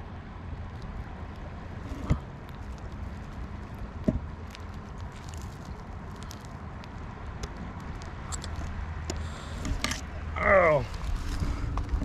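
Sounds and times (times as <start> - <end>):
wind rumbling on microphone: 0.0 - 12.0
faint clicks and crackles: 0.6 - 10.2.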